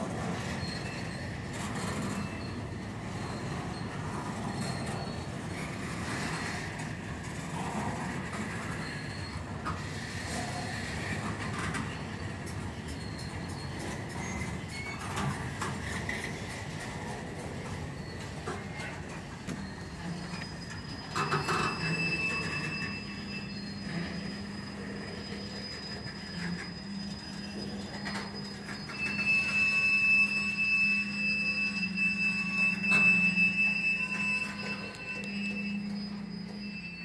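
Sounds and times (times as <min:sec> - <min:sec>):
freight train rumbling: 0:00.0 - 0:37.0
metallic wheel squeal: 0:00.0 - 0:37.0.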